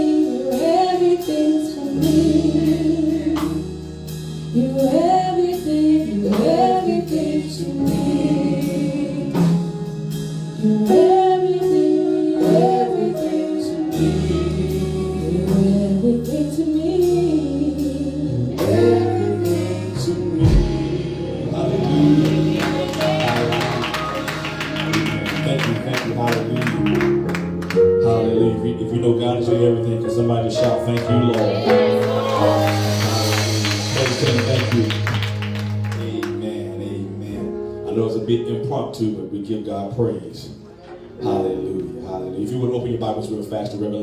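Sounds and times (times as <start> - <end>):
gospel choir singing: 0.0 - 37.0
band playing: 0.0 - 38.3.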